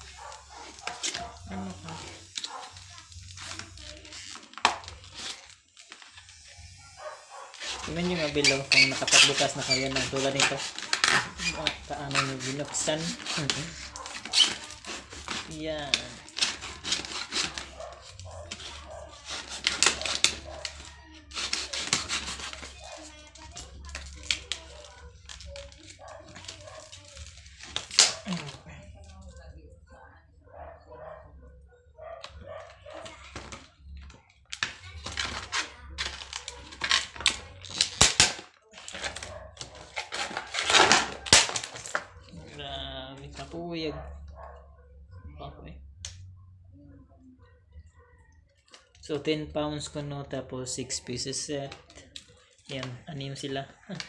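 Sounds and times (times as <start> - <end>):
plastic packaging crinkling and snapping: 0.0 - 29.5, 32.2 - 43.6, 51.2 - 54.0.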